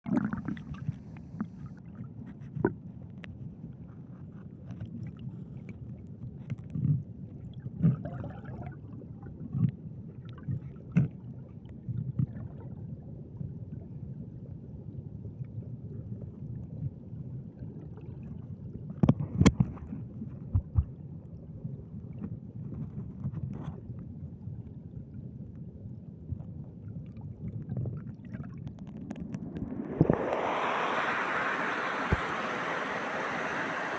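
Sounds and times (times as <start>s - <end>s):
muffled underwater river rumble: 0.0s - 33.9s.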